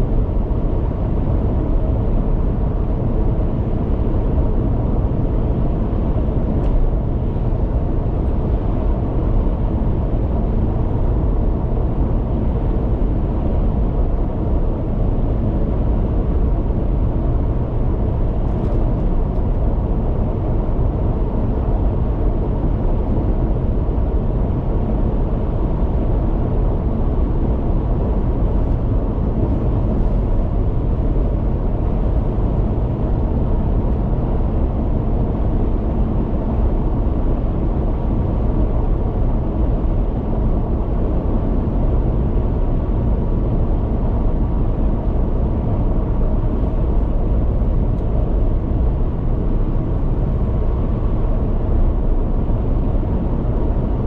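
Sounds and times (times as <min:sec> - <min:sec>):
car road noise at highway speed: 0:00.0 - 0:54.0.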